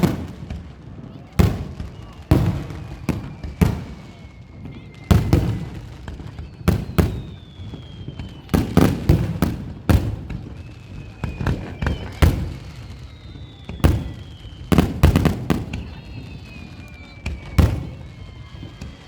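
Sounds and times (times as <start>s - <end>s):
falling fireworks whistles: 0.0s - 19.0s
fireworks bursting: 0.0s - 19.0s.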